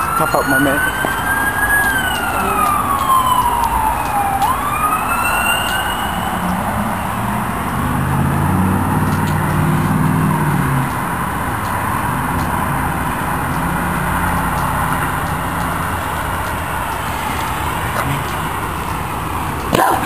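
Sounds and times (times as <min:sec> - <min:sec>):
emergency vehicle siren wailing: 0:00.0 - 0:20.0.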